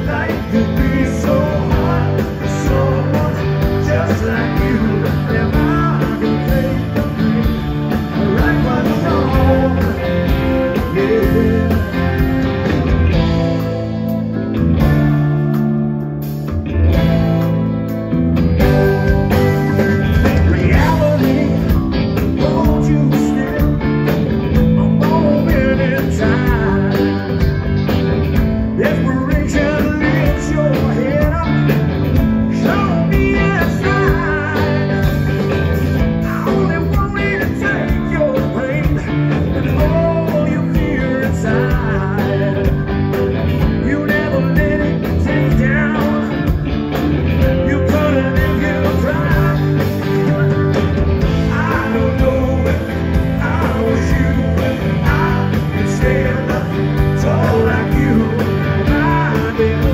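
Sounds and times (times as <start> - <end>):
man singing: 0.0 - 12.8, 18.8 - 27.4, 28.6 - 46.6, 47.3 - 59.9
blues-rock band playing: 0.0 - 59.9
electric guitar: 0.0 - 59.9.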